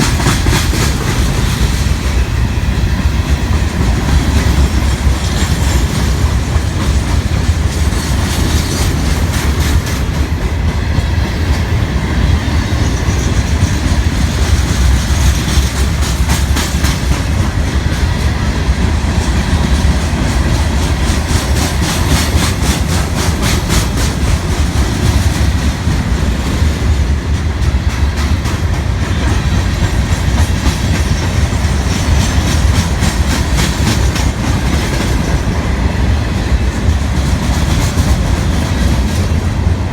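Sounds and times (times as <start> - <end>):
train cars rumbling past: 0.0 - 39.9
wheels clacking over rail joints: 0.0 - 39.9.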